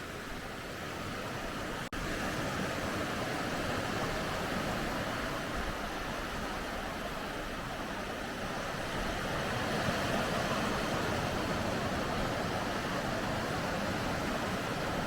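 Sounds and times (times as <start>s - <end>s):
sea surf on a sandy beach: 0.0s - 15.0s.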